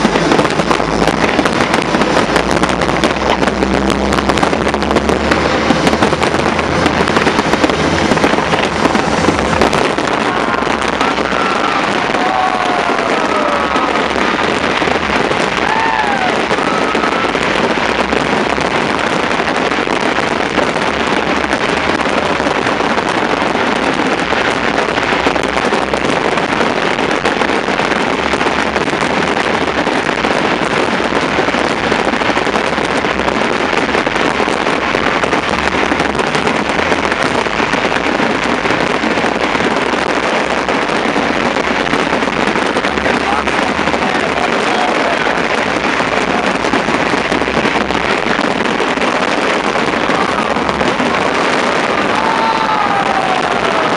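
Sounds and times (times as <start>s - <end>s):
fireworks bursts and crackling: 0.0s - 53.9s.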